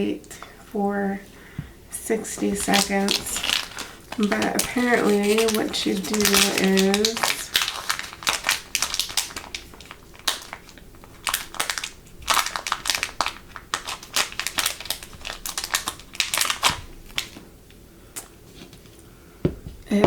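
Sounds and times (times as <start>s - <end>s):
plastic packaging crinkling: 2.0s - 19.0s.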